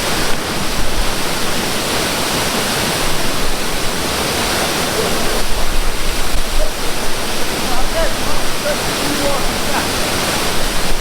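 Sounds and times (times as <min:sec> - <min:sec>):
waterfall rushing: 0:00.0 - 0:11.0
wind rumbling on microphone: 0:00.0 - 0:11.0.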